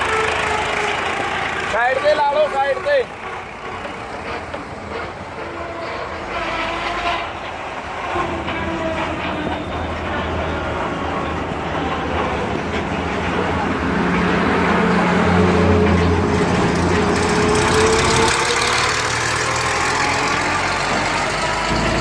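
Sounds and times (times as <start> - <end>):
combine harvester engine running: 0.0 - 22.0.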